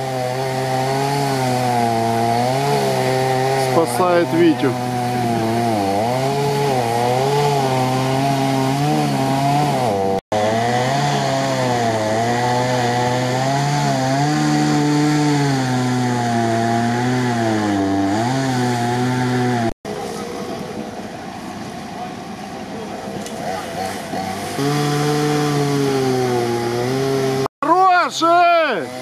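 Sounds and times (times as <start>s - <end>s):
vehicle engine revving hard: 0.0s - 19.7s, 23.4s - 27.5s.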